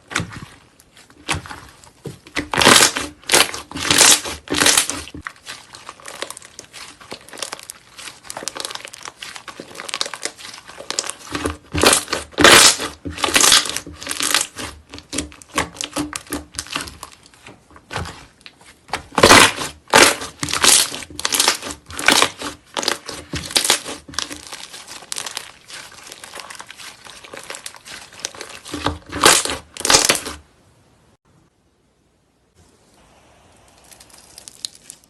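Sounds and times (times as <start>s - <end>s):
slime squelching: 0.0s - 30.4s, 33.4s - 35.0s
slime crackling and popping: 0.1s - 17.3s, 18.9s - 30.4s, 33.7s - 35.0s.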